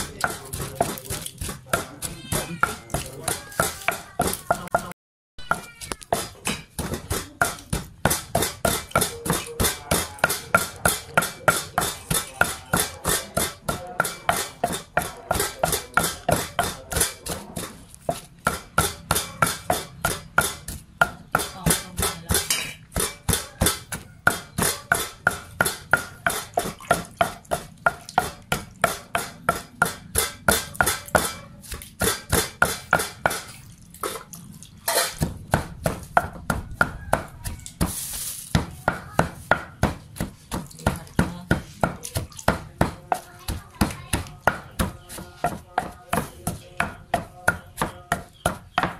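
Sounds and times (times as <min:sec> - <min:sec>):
pestle pounding in clay mortar: 0:00.0 - 0:48.9.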